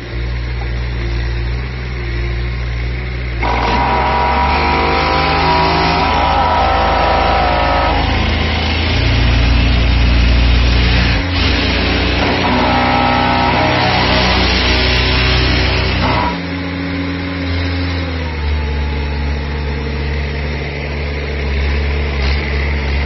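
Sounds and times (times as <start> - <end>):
digging machine engine running: 0.0 - 23.0
hydraulic rushing with whine: 0.0 - 23.0.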